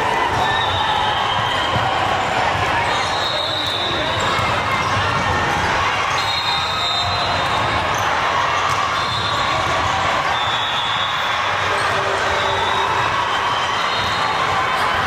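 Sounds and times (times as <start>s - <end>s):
crowd and player noise: 0.0s - 15.0s.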